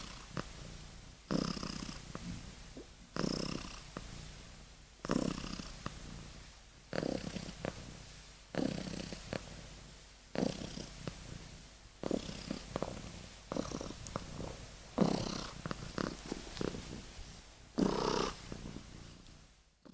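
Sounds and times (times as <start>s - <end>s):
kitten snoring: 0.0s - 19.9s.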